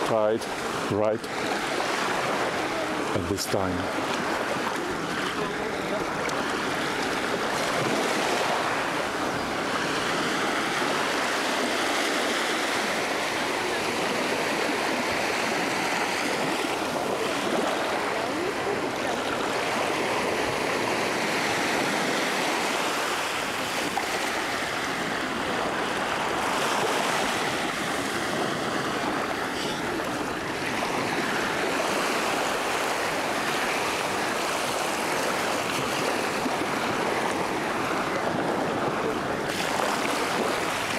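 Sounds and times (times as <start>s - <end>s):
small waves breaking on beach: 0.0s - 40.9s.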